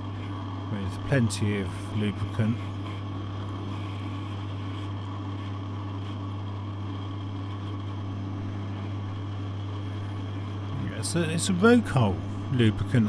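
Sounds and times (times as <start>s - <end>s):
pillar drill motor hum: 0.0s - 13.0s.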